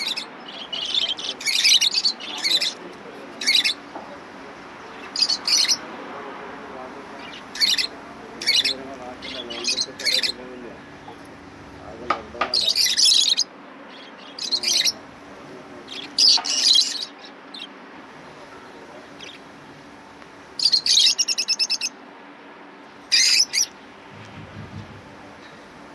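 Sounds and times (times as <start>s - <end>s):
steady low hum: 0.0s - 16.4s, 17.0s - 25.9s
birds chirping: 0.0s - 25.9s.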